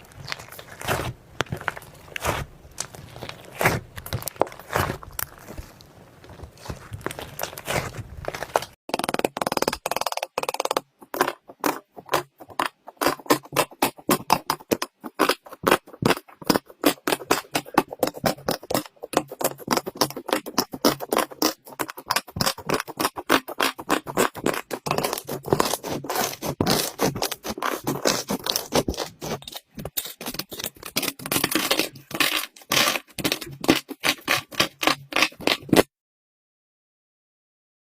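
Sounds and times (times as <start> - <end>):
slime squished by hand: 0.0 - 35.8.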